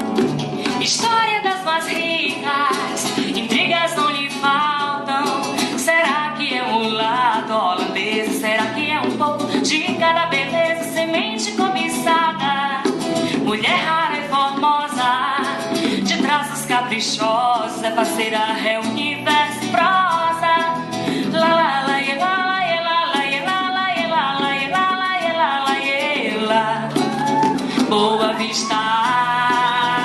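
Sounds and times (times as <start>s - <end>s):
instrumental accompaniment with bass: 0.0s - 30.0s
woman singing: 0.5s - 30.0s.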